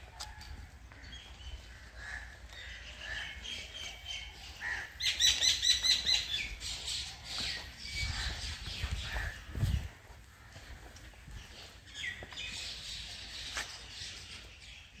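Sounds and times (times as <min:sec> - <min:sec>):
birds chirping: 0:00.8 - 0:15.0.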